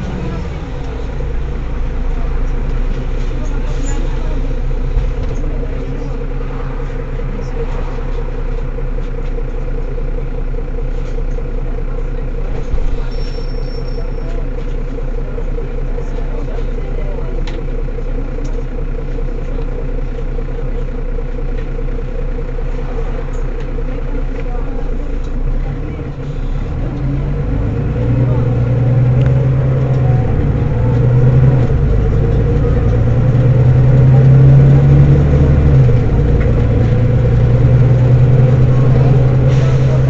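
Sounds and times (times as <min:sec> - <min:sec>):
bus engine idling: 0:00.0 - 0:40.0.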